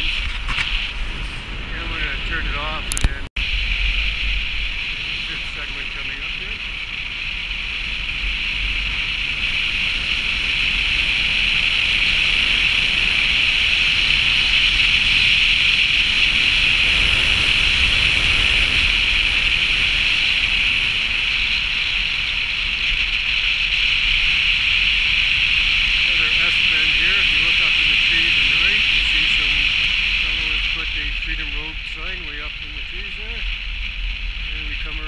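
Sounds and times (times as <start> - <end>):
wind and tyre noise: 0.0 - 35.0.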